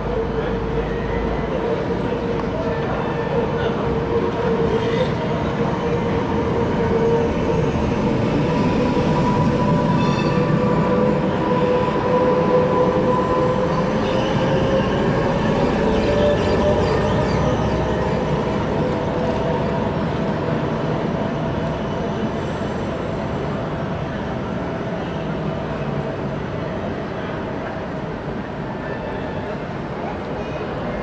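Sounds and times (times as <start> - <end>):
tram wheels rumbling on rails: 0.0 - 31.0
tram whine: 0.0 - 31.0.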